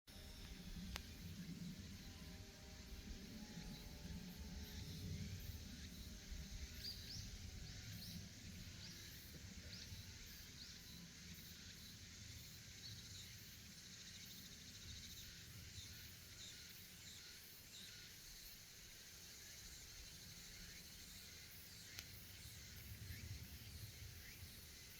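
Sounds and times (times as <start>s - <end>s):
cicadas singing: 0.1s - 24.9s.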